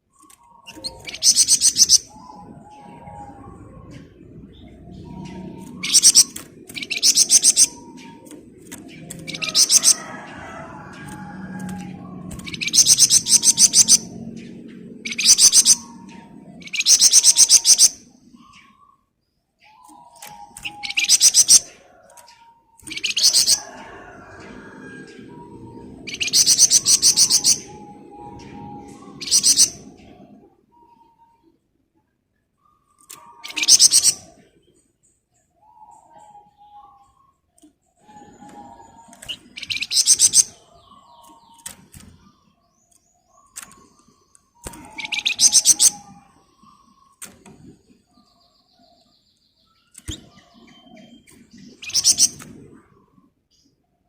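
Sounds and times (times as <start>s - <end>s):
soft bird chirps: 0.0s - 54.0s.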